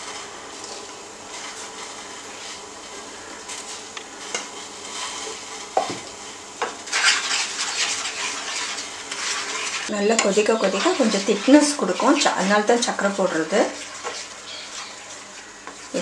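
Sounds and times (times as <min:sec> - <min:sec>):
spatula scraping pan: 0:00.0 - 0:16.0.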